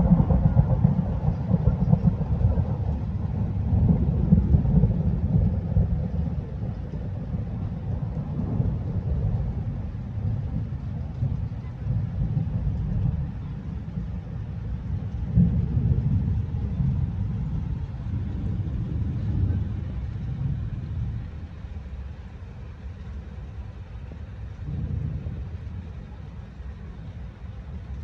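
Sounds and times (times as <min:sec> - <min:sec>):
rolling thunder: 0:00.0 - 0:28.0.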